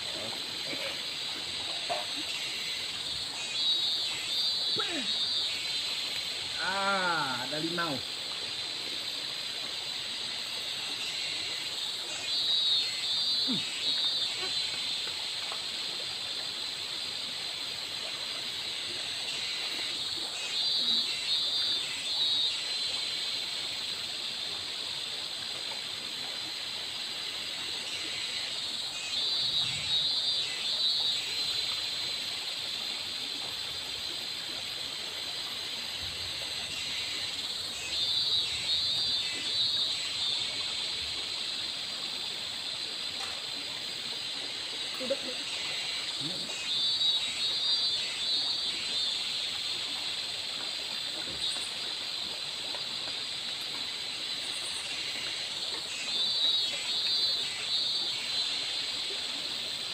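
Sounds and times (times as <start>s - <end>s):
shallow river flowing: 0.0s - 59.9s
steady high hiss: 0.0s - 59.9s.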